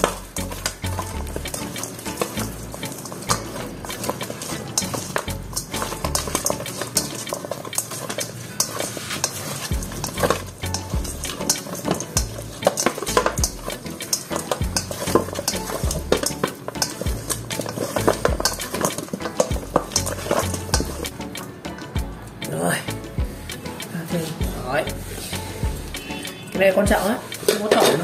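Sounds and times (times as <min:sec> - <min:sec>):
chopsticks scraping metal bowl: 0:00.0 - 0:21.9, 0:23.5 - 0:28.0.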